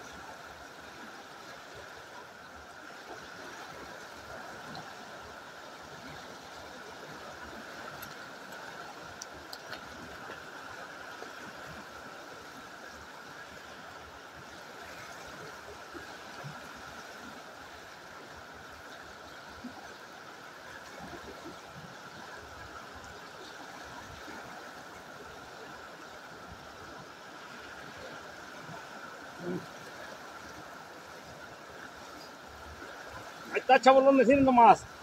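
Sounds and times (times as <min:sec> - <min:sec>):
river water rushing over rocks: 0:00.0 - 0:35.0.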